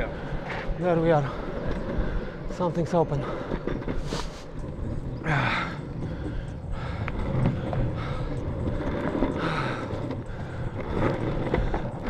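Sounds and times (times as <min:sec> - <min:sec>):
longboard wheels rumbling on pavement: 0:00.0 - 0:12.0.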